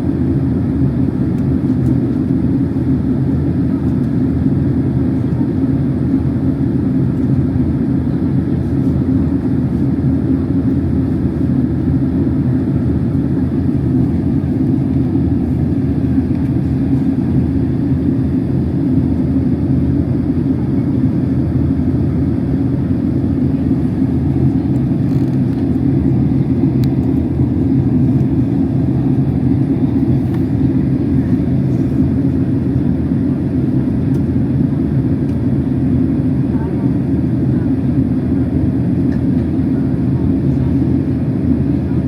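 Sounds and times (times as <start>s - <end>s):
airliner cabin drone: 0.0s - 42.0s.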